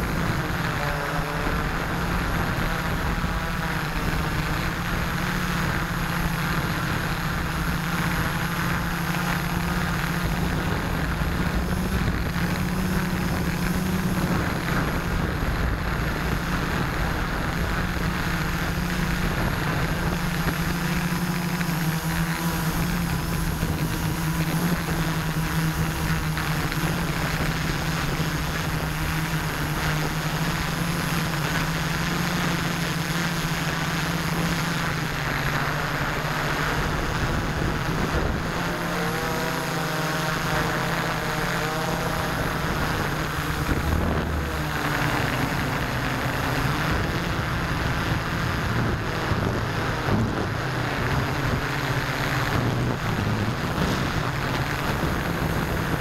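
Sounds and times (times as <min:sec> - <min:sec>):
drone motors and propellers droning: 0:00.0 - 0:56.0
wavering high whine: 0:00.0 - 0:56.0.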